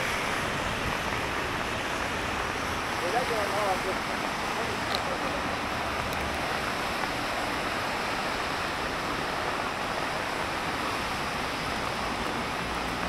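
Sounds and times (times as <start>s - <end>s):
rain on wet paving: 0.0s - 13.0s.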